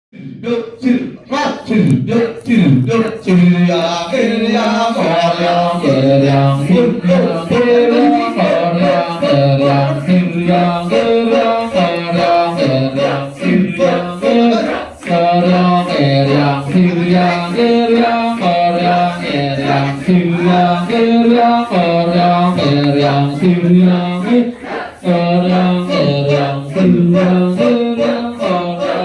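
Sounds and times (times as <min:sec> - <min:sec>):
chorus of voices chanting: 0:00.1 - 0:29.0.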